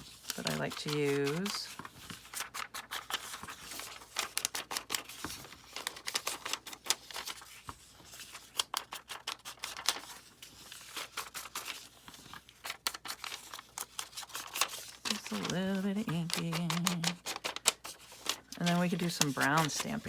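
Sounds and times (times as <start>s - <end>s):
hands rubbing paper: 0.0s - 20.0s.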